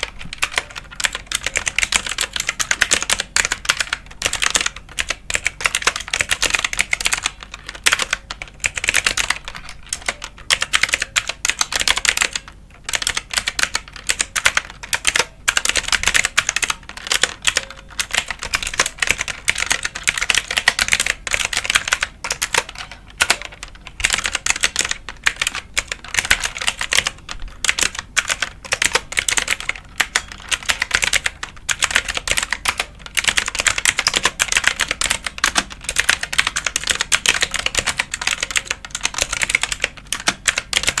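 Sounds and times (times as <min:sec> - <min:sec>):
keyboard typing clicks: 0:00.0 - 0:41.0.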